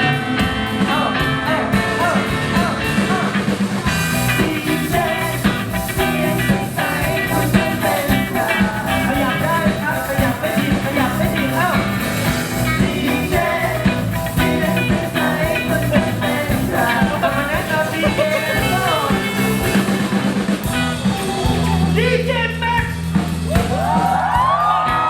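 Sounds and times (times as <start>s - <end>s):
person singing: 0.0s - 22.6s
steady music beat: 2.0s - 23.8s.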